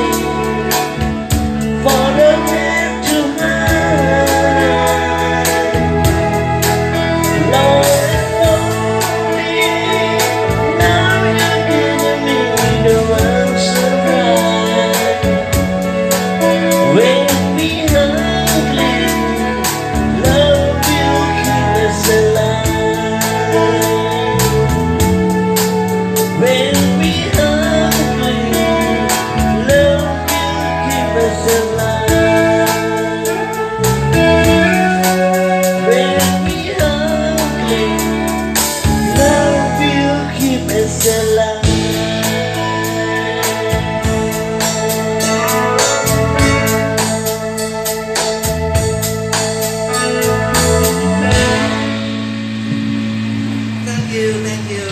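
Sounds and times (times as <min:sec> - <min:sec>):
person singing: 0:00.0 - 0:48.9, 0:53.6 - 0:54.9
band playing a song: 0:00.0 - 0:54.9
bass line: 0:00.0 - 0:54.9.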